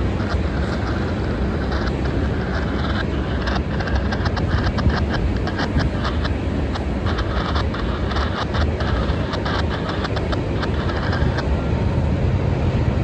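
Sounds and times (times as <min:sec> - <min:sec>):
train wheel clicks and clatter: 0:00.0 - 0:11.5
freight train cars rumbling past: 0:00.0 - 0:13.0.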